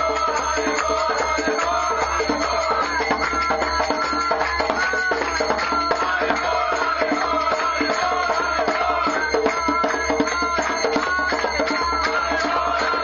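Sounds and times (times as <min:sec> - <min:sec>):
group singing a chant: 0:00.0 - 0:13.0
hand drum beat: 0:00.0 - 0:13.0.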